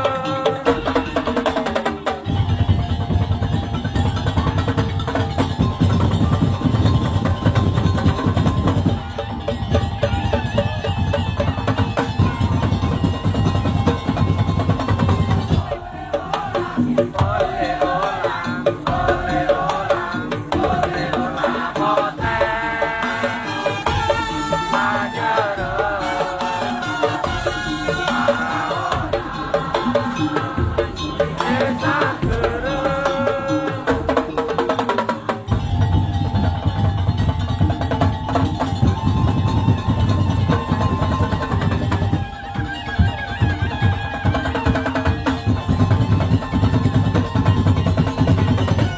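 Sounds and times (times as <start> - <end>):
drums beating fast rhythm: 0.0 - 48.9
quick percussion strokes: 0.0 - 48.9.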